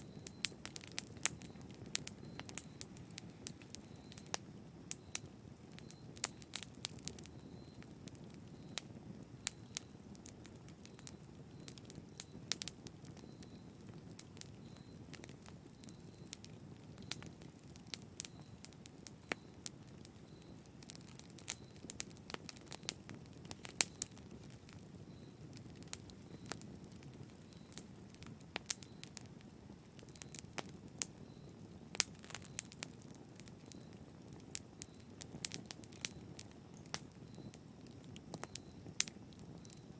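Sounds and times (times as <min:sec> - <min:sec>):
fire crackling and popping: 0:00.0 - 0:39.9
low rush of flames: 0:00.0 - 0:39.9.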